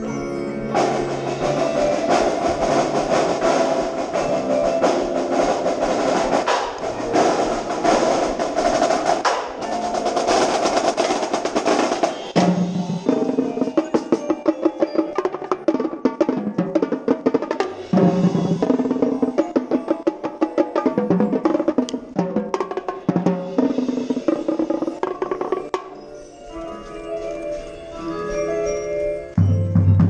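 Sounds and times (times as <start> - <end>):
mallet and keyboard notes: 0.0 - 30.0
marching tenor drums: 0.8 - 25.9
snare drum rolls: 0.8 - 25.9.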